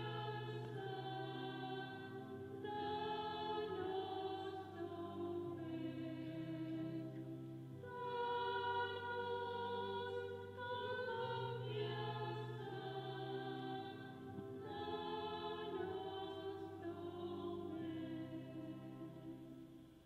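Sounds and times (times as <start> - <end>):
choir singing a hymn: 0.0 - 19.8.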